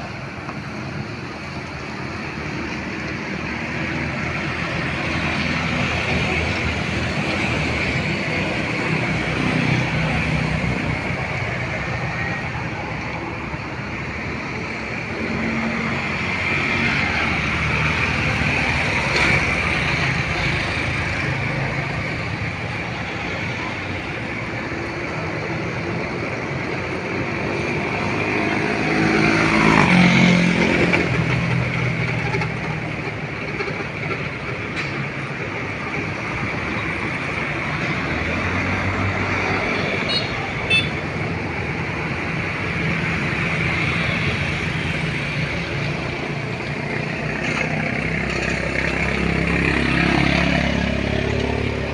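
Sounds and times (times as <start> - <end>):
passing cars and motorcycles: 0.0 - 51.9.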